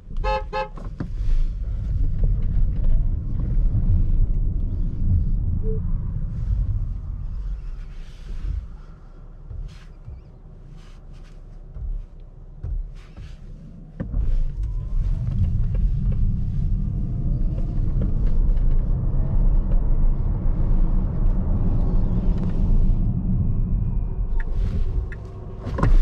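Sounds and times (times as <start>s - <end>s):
road and tyre rumble: 0.0s - 26.0s.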